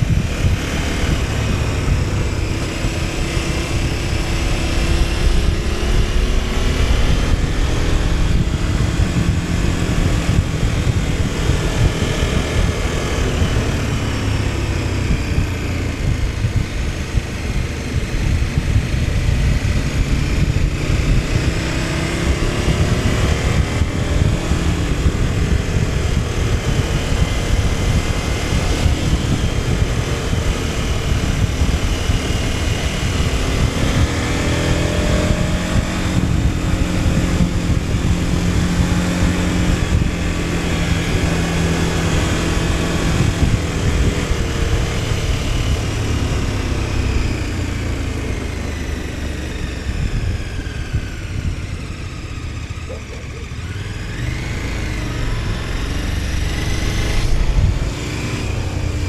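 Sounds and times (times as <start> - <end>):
low rumble: 0.0 - 59.0
motorcycle engine running: 0.0 - 59.0.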